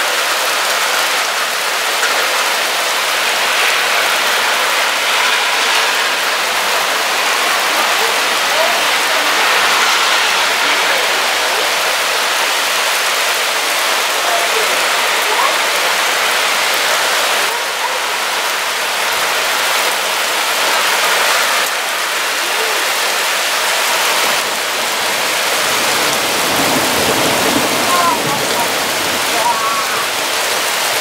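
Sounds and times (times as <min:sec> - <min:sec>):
heavy rain on pavement and leaves: 0:00.0 - 0:31.0.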